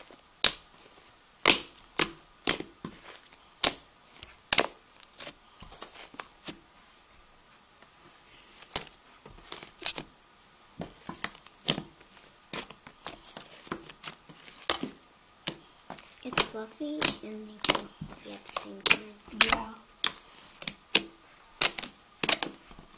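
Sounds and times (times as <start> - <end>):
slime popping and crackling: 0.0 - 6.6, 8.6 - 10.2, 10.8 - 22.9.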